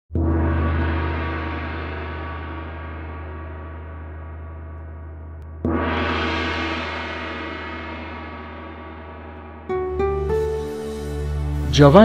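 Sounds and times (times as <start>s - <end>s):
deep gong strikes: 0.2s - 11.6s
intro music: 0.2s - 12.0s.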